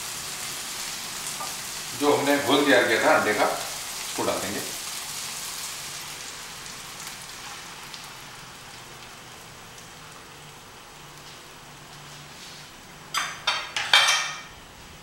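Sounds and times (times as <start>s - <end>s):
eggs sizzling in hot pan: 0.0s - 15.0s.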